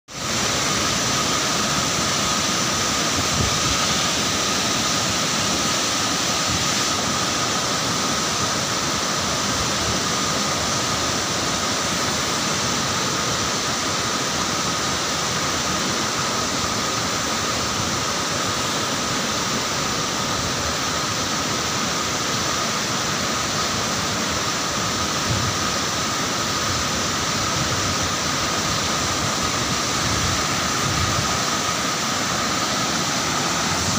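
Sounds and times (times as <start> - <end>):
waterfall rushing over rocks: 0.1 - 33.9.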